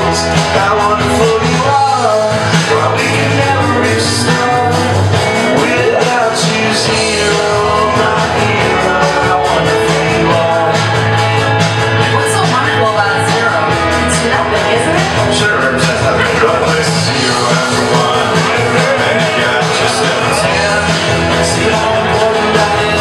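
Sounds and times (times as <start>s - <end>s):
person singing: 0.0s - 11.2s, 12.1s - 23.0s
band music: 0.0s - 23.0s.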